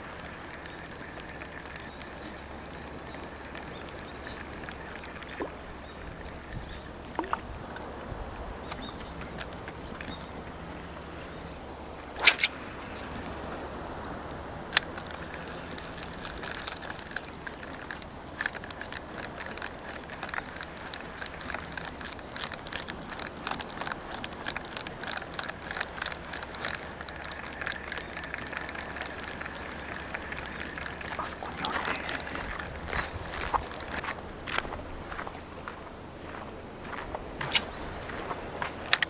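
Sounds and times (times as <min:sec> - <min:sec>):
steady high-pitched whine: 0:00.0 - 0:39.0.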